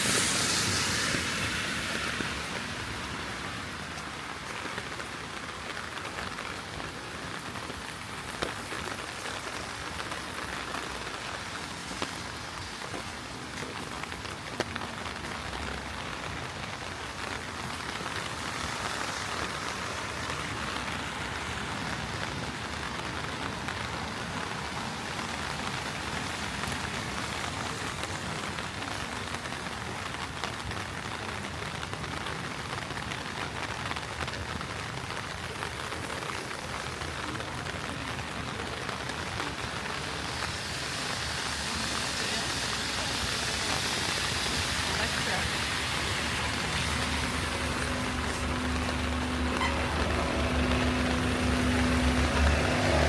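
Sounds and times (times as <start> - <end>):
heavy rain on street: 0.0 - 53.0.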